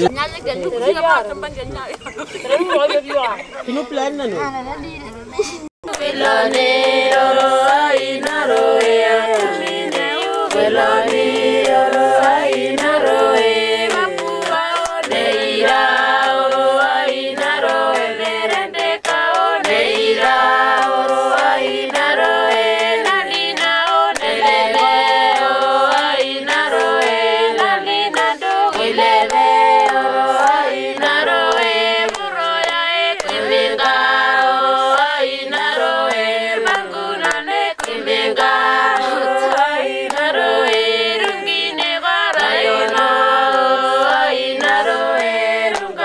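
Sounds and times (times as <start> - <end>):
group singing unaccompanied chant: 5.8 - 46.0.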